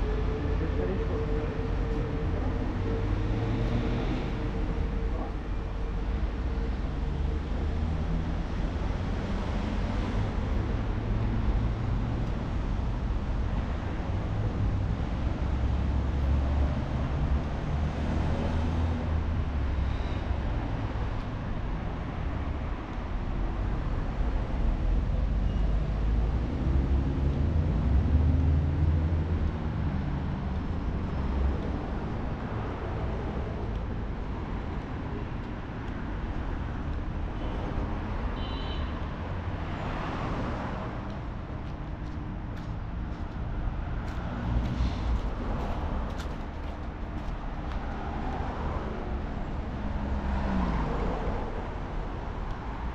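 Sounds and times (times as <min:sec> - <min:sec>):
vehicle engines rumbling: 0:00.0 - 0:52.9.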